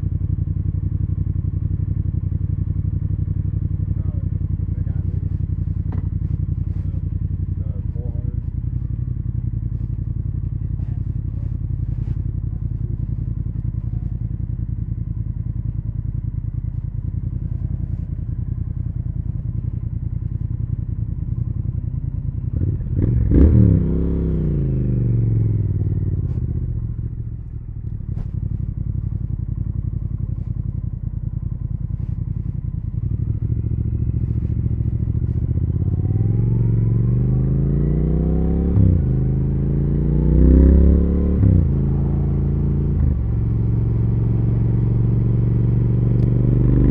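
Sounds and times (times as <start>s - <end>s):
motorcycle engine idling: 0.0s - 46.9s
motorcycle engine revving: 0.0s - 46.9s
motorcycle accelerating and upshifting: 1.3s - 46.9s.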